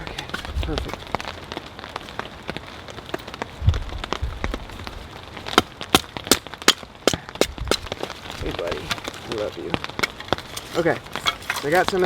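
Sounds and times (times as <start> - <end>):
rain falling: 0.0 - 12.0
raindrops tapping: 0.0 - 12.0.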